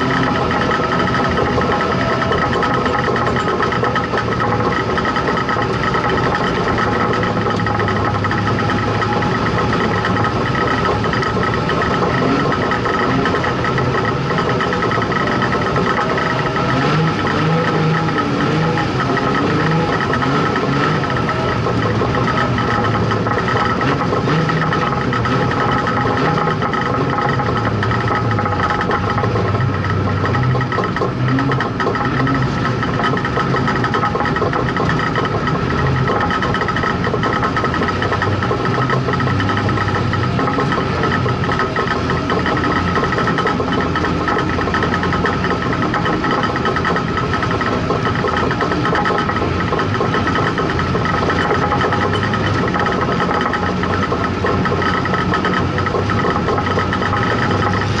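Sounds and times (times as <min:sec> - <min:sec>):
race car engine running: 0:00.0 - 0:58.0
steady high whine: 0:00.0 - 0:58.0.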